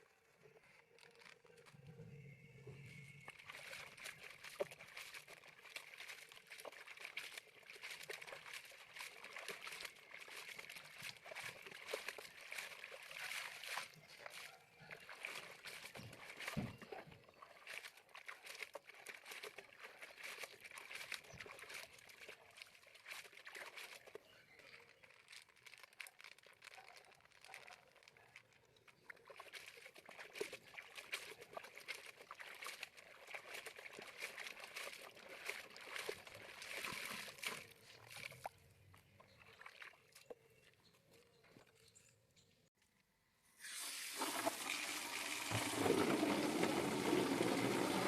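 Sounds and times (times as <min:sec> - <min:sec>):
water sloshing and trickling: 0:00.0 - 0:42.7, 0:43.6 - 0:48.0.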